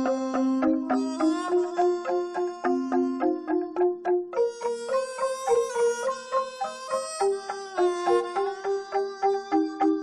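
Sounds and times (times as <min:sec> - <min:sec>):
plucked string instrument melody: 0:00.0 - 0:10.0.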